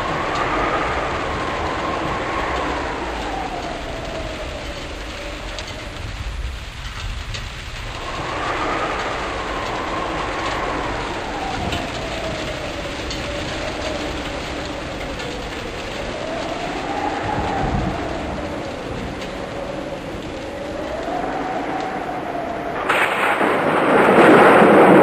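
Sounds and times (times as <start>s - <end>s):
rushing wind and rain: 0.0s - 25.0s
wind howling with pitched whistle: 0.0s - 25.0s.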